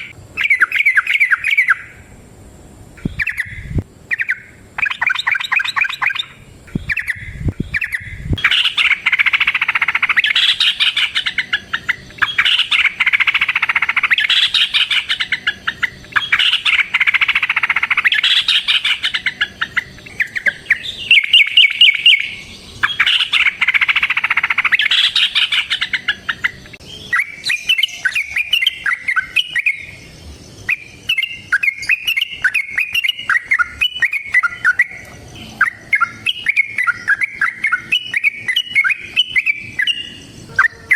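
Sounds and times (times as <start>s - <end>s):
bird chattering trills: 0.0s - 2.1s, 2.9s - 40.9s.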